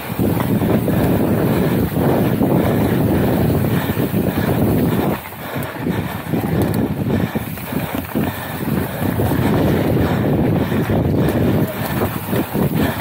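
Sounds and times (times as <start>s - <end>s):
bike tyres rolling on sandy dirt: 0.0s - 13.0s
wind buffeting microphone: 0.0s - 13.0s.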